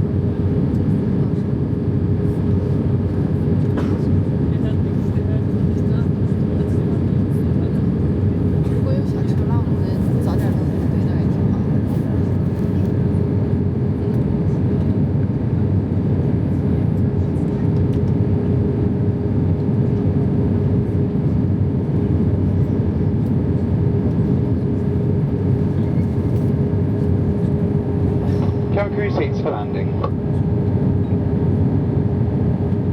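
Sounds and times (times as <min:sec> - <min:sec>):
constant cabin hum: 0:00.0 - 0:32.9
jet engine and airflow rumble: 0:00.0 - 0:32.9.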